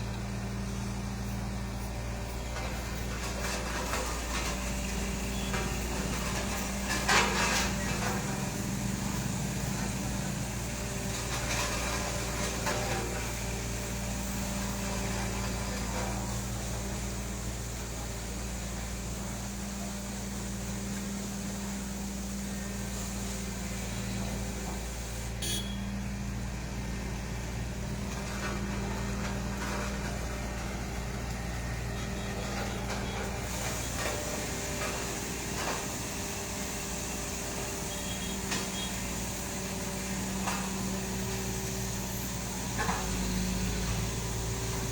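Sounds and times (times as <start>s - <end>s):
diesel engine humming: 0.0s - 44.9s.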